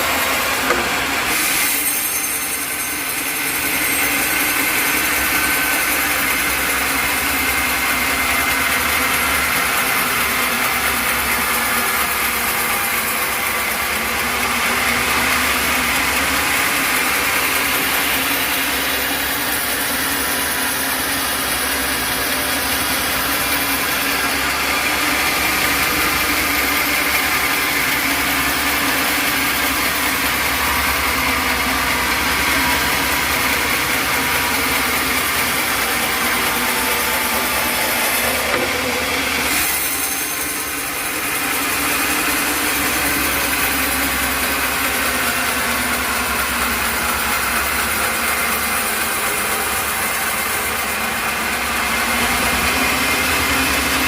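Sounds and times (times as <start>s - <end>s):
sawmill machinery engine drone: 0.0s - 54.0s.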